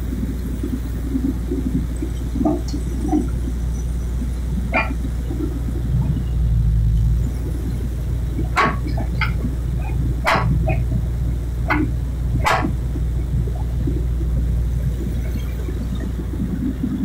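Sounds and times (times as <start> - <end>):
drilling rig engine humming: 0.0 - 17.0.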